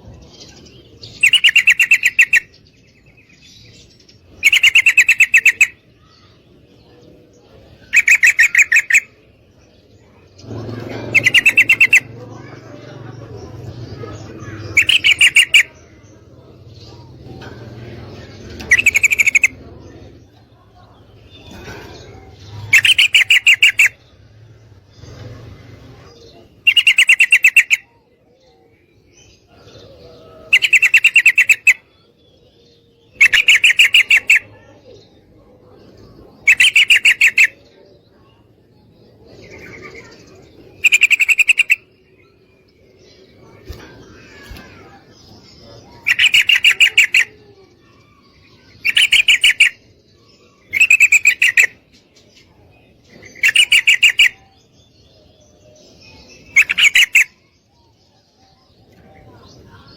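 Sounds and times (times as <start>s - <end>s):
bulbul chattering call: 1.0s - 6.4s, 7.7s - 24.2s, 25.9s - 28.5s, 29.2s - 31.9s, 32.5s - 35.1s, 36.0s - 37.7s, 39.0s - 52.4s, 53.0s - 57.6s.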